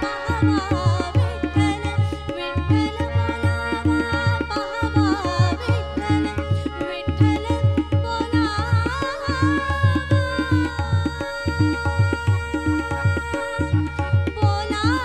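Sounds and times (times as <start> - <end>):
harmonium sustained notes: 0.0 - 15.0
tabla beat: 0.0 - 15.0
woman singing: 0.0 - 15.0.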